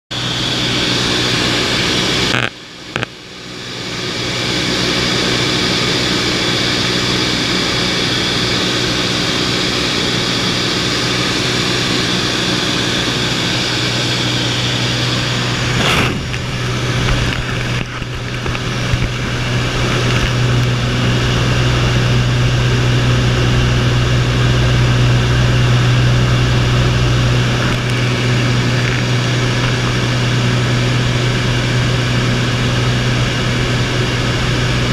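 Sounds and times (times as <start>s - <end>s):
propeller plane engine droning: 0.1s - 34.9s.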